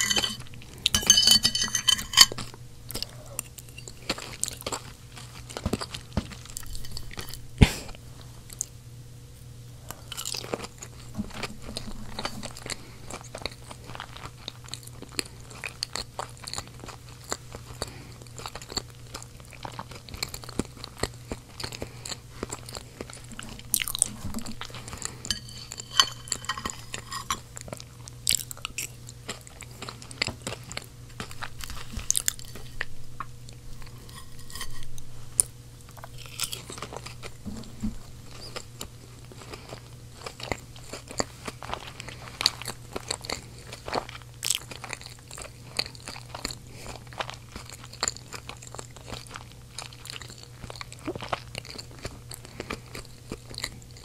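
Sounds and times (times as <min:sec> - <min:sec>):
child chewing food: 0:00.0 - 0:54.0.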